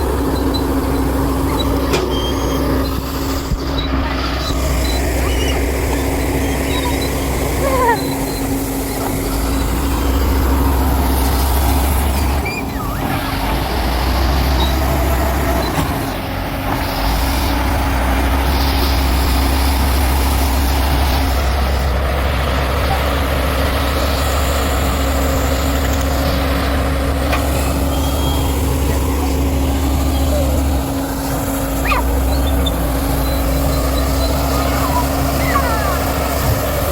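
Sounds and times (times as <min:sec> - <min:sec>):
construction machine diesel engine: 0:00.0 - 0:36.9.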